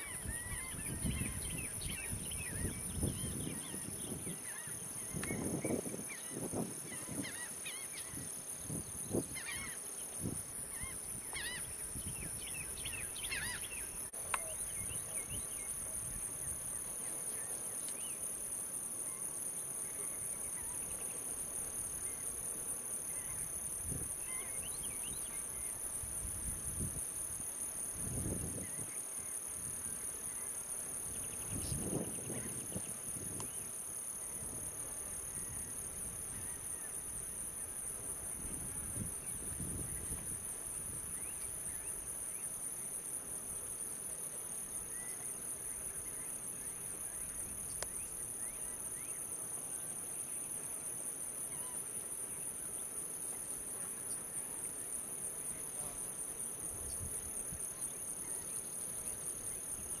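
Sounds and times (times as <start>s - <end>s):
insects trilling: 0.0s - 60.0s.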